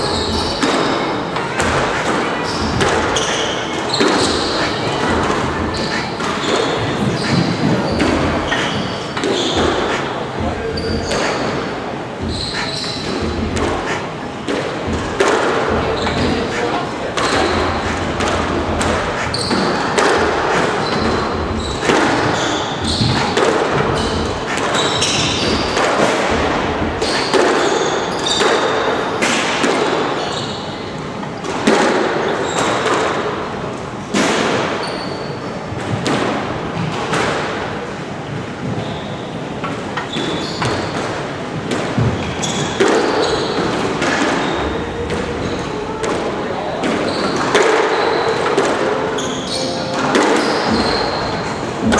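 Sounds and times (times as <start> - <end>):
shoes squeaking on floor: 0.0 - 29.2, 29.8 - 33.0, 34.6 - 35.9, 38.5 - 51.9
racket striking squash ball: 0.0 - 35.2, 35.8 - 37.9, 38.6 - 51.9.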